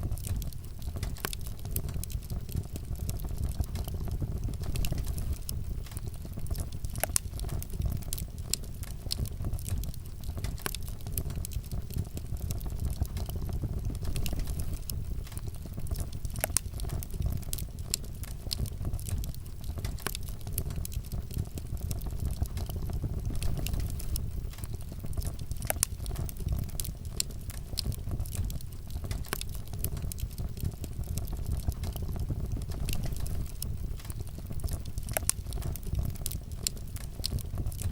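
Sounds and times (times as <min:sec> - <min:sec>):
fire crackling and popping: 0:00.0 - 0:37.9
low rumble of flames: 0:00.0 - 0:37.9.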